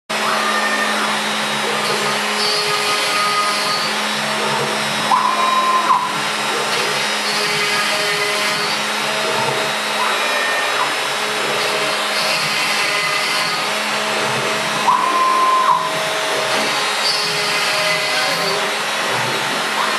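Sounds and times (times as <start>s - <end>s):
dust extraction vacuum: 0.1s - 19.9s
stepper motors whining: 0.1s - 19.9s
router spindle milling wood: 0.2s - 19.8s.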